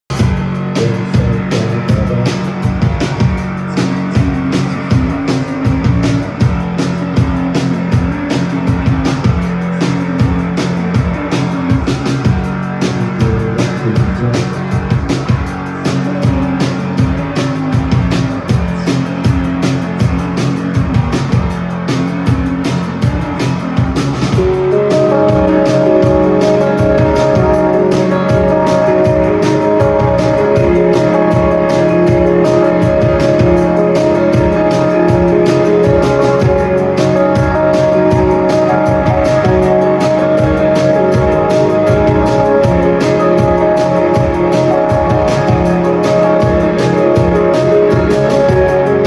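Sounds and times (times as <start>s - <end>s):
rock band playing live: 0.1s - 49.0s.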